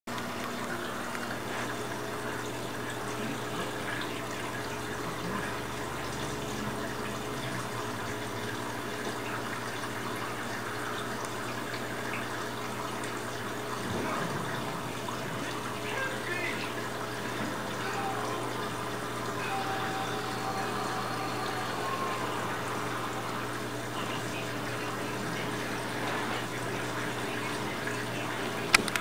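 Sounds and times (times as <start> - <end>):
water running and trickling: 0.1 - 29.0.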